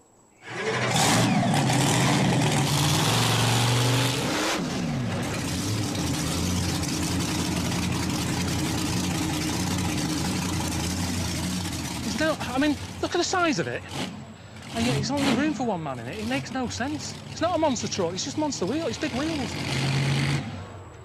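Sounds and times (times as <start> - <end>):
big truck engine revving and idling: 0.4 - 21.0.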